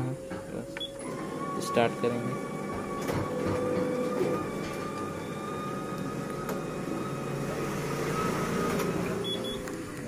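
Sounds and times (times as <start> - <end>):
photocopier whine: 0.0 - 10.0
photocopier whirring: 0.0 - 10.0.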